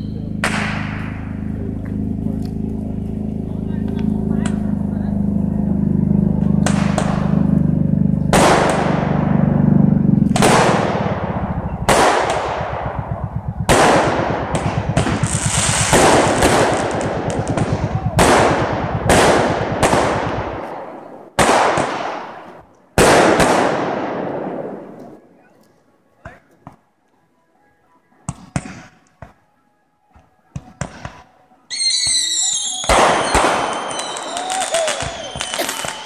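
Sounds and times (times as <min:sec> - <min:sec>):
fireworks bangs echoing: 0:00.0 - 0:25.2, 0:30.6 - 0:36.0.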